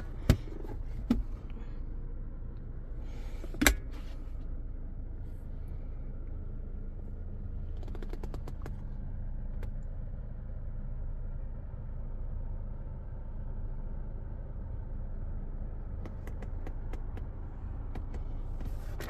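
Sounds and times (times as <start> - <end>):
car cabin hum: 0.0 - 19.0.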